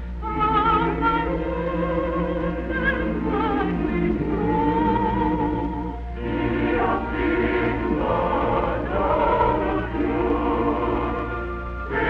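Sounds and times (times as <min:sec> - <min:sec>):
choir singing: 0:00.2 - 0:12.0.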